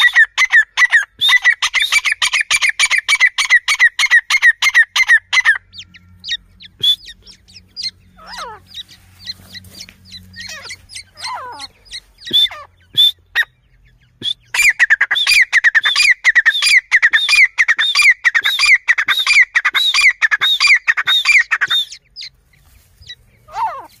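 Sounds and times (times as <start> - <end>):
bird harsh calls: 0.0 - 24.0.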